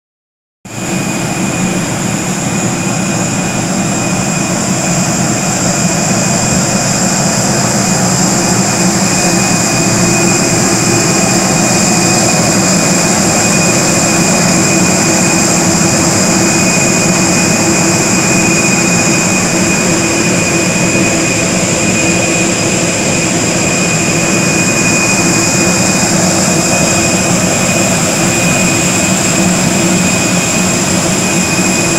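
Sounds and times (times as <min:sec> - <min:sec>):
jet turbine whine: 0:00.7 - 0:31.9.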